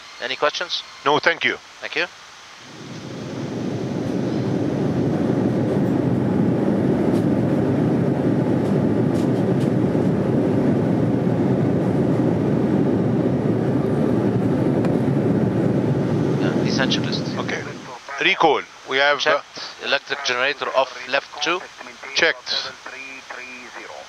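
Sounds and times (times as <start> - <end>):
airplane cabin engine rumble: 2.5 - 24.0.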